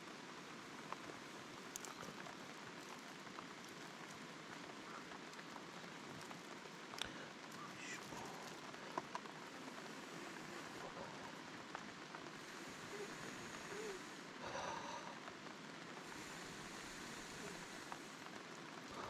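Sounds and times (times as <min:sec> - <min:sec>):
rain patter: 0:00.0 - 0:19.0
rustle: 0:00.0 - 0:19.0.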